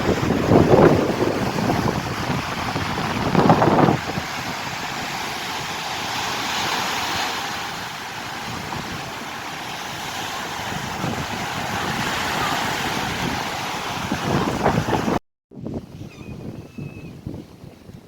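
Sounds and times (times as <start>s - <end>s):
surf washing on shore: 0.0s - 18.0s
wind buffeting microphone: 0.0s - 18.0s.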